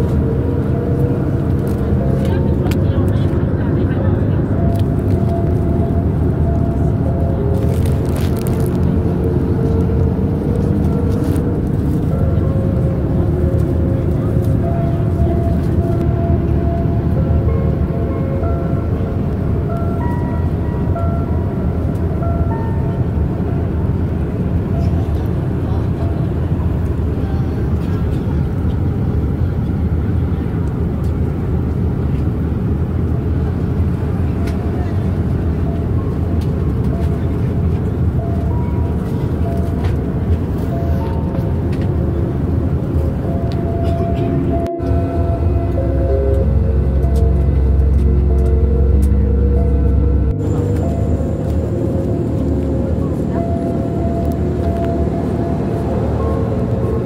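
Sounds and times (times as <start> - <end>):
faint music: 0.0 - 31.5, 33.2 - 57.0
vehicle interior rumble: 0.0 - 57.0.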